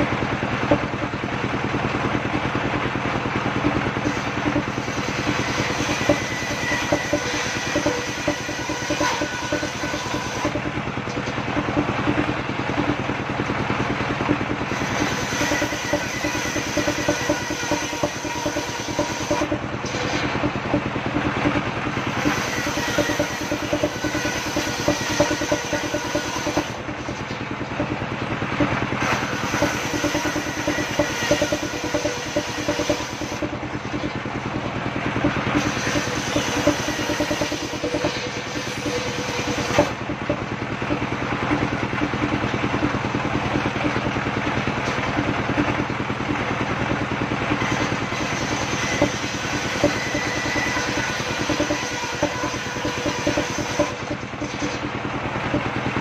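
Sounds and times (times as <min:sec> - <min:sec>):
engine pulsing: 0:00.0 - 0:56.0.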